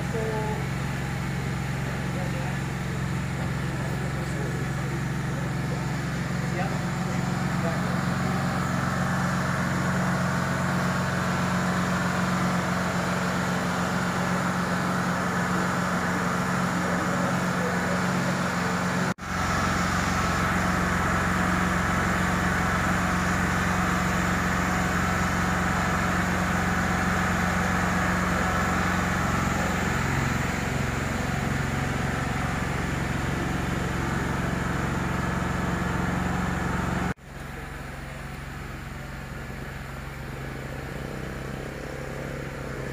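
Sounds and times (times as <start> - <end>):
large engine idling: 0.0 - 42.9.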